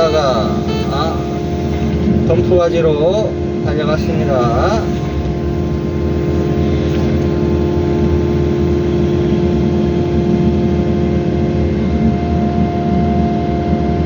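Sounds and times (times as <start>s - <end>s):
excavator diesel engine running: 0.0s - 13.1s.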